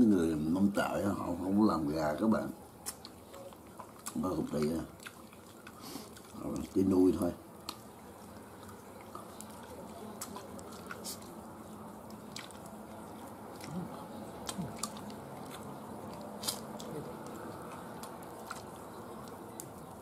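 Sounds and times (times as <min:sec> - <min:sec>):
low background noise: 0:00.0 - 0:20.0
person chewing: 0:02.8 - 0:20.0.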